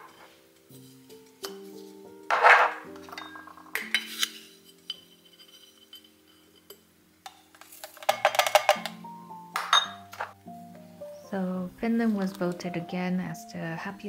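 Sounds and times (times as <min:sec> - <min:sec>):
background music with held notes: 0:00.0 - 0:14.0.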